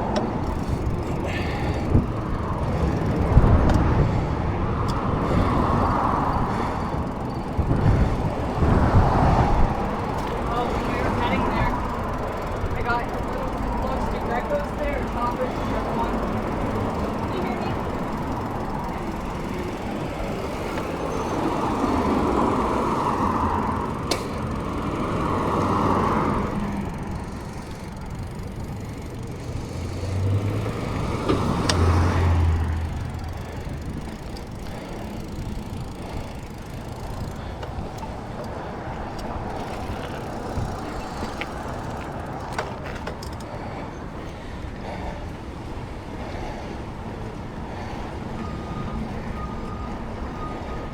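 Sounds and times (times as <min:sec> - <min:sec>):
bicycle rumbling: 0:00.0 - 0:50.9
road traffic: 0:00.0 - 0:50.9.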